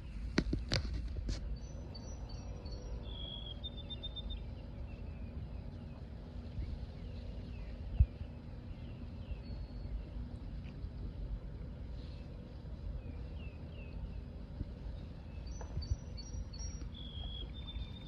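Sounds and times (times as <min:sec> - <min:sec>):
birds chirping: 0:00.0 - 0:10.7, 0:11.3 - 0:18.0
low rumble of water and wind: 0:00.0 - 0:18.0.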